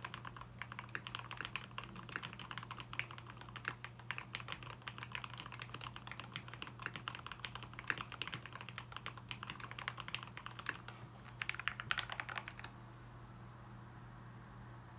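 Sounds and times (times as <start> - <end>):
fast mechanical keyboard typing: 0.0 - 12.7
steady low hum: 0.0 - 14.9.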